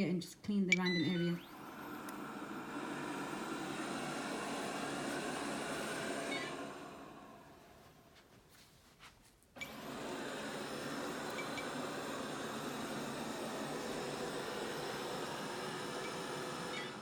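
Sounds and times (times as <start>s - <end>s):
robot vacuum whirring: 0.9s - 7.5s, 9.6s - 17.0s.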